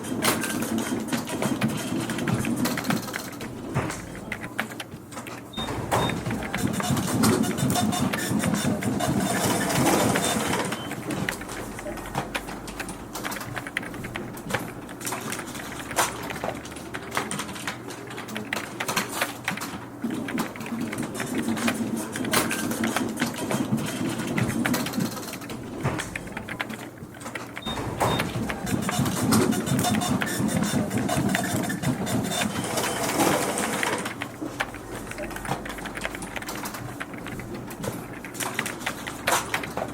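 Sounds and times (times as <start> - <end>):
dense irregular clicking: 0.0 - 39.9
office machinery humming: 0.0 - 39.9.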